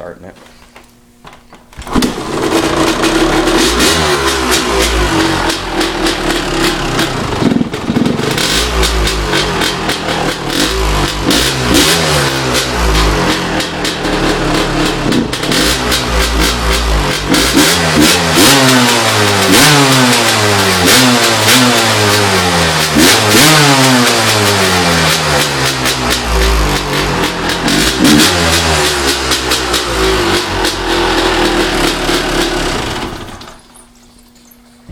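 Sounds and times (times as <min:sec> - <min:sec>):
dirt bike engine revving: 0:01.8 - 0:33.6.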